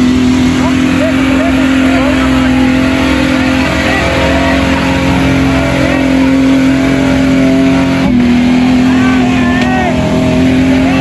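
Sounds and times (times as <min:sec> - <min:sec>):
faint voices: 0:00.4 - 0:11.0.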